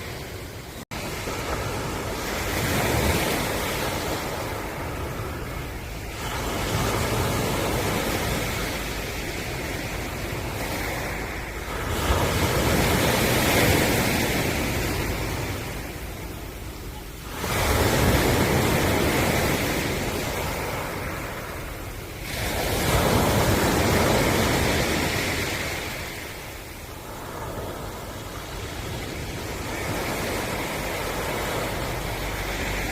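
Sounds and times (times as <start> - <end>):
ocean waves breaking: 0.0 - 32.9.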